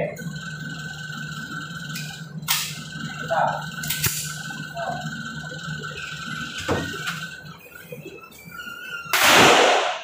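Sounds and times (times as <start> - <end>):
ventilation blower hum and whine: 0.0 - 10.0.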